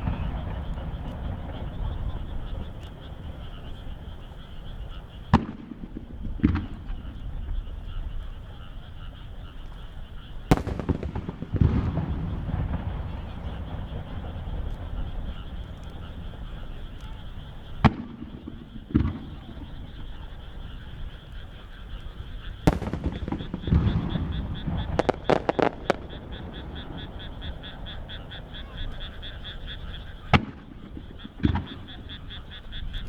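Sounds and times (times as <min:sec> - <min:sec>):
sharp firework cracks: 0:00.0 - 0:07.8, 0:10.4 - 0:33.0
firework shells booming: 0:00.0 - 0:33.0
frogs croaking: 0:00.0 - 0:33.0.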